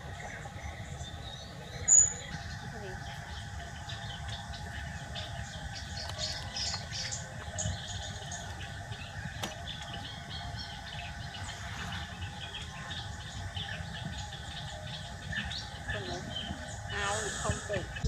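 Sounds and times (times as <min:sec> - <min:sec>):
birds chirping: 0:00.0 - 0:18.0
steady low rumble: 0:00.0 - 0:18.0.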